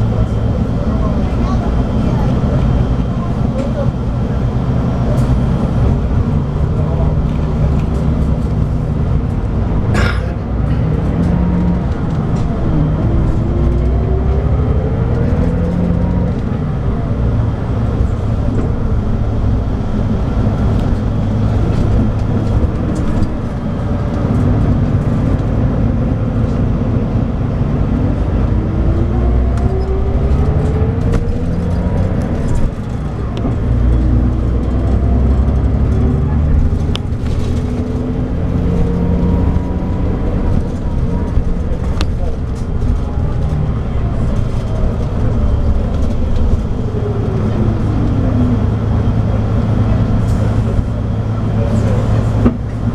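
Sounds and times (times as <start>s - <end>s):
bus diesel engine accelerating: 0.0s - 52.9s.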